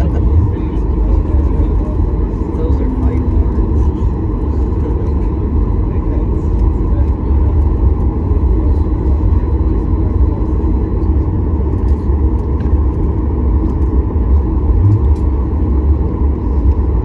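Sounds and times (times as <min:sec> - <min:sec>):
airplane cabin rumble while taxiing: 0:00.0 - 0:17.0.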